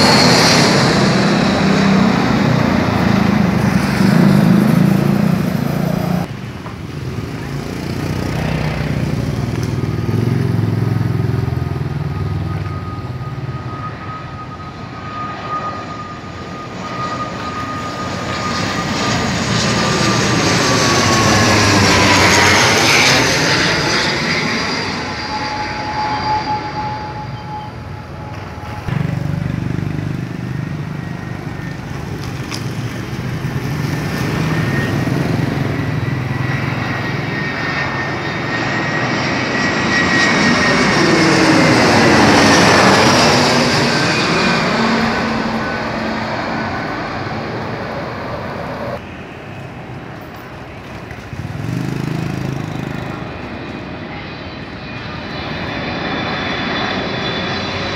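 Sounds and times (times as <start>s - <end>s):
jet airliner whine: 0.0s - 57.9s
turboprop airliner passing overhead: 0.0s - 57.9s.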